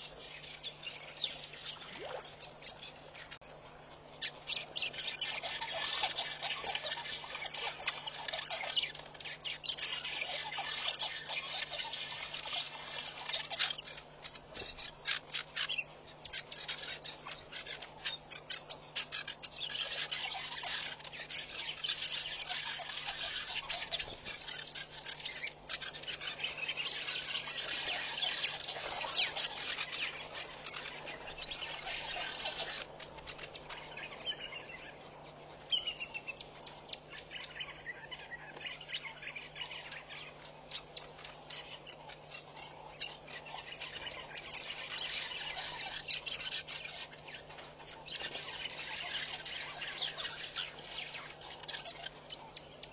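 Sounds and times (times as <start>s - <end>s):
insects and birds chirping: 0.0s - 52.9s.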